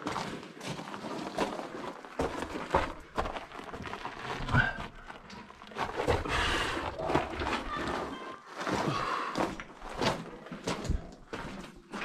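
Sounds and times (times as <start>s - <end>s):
footsteps scrambling over loose stone: 0.0s - 12.0s.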